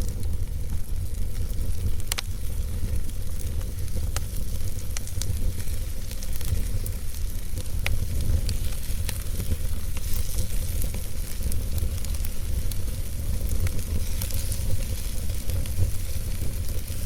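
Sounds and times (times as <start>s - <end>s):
logs crackling and popping: 0.0s - 17.0s
wood fire burning: 0.0s - 17.0s.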